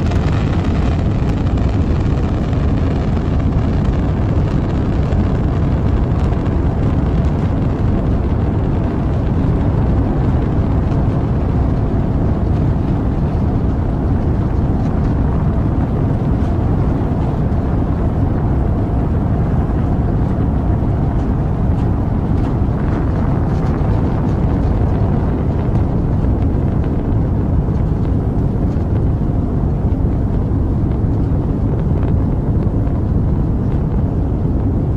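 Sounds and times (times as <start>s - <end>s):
rocket engine roar: 0.0s - 34.9s.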